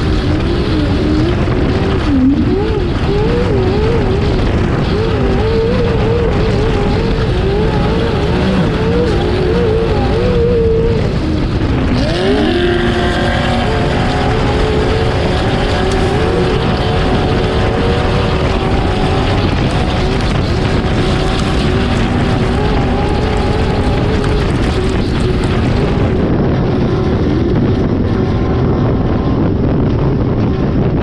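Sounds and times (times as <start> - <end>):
motor whine: 0.0 - 30.8
dense rushing noise: 0.0 - 31.0.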